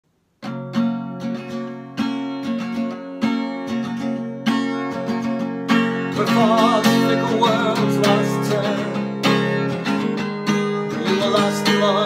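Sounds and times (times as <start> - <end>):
acoustic guitar strumming chords: 0.4 - 12.0.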